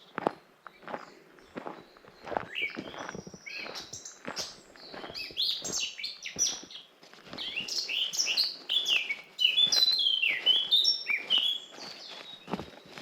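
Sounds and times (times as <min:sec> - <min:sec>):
soft footsteps on forest path: 0:00.0 - 0:13.0
songbirds chirping and singing: 0:00.0 - 0:13.0.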